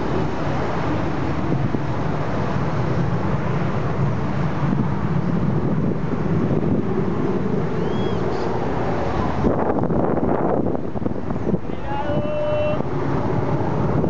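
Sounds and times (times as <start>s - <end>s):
jet engine noise: 0.0s - 14.0s
wind buffeting microphone: 0.0s - 14.0s.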